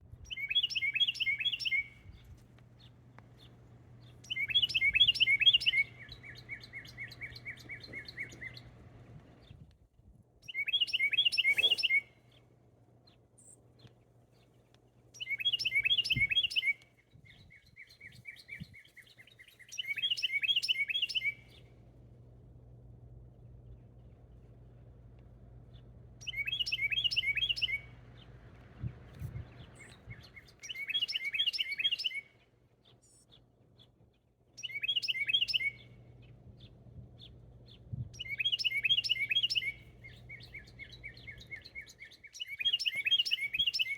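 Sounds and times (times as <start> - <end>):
songbird chattering song: 0.0 - 9.7, 10.4 - 21.9, 23.1 - 43.9.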